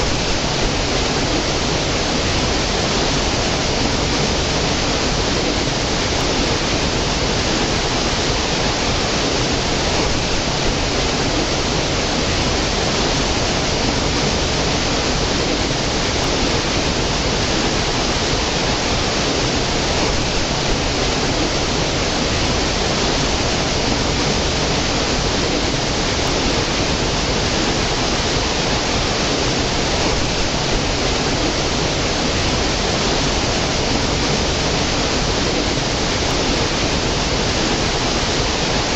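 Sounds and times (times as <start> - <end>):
stream cascading over rocks: 0.0 - 38.9.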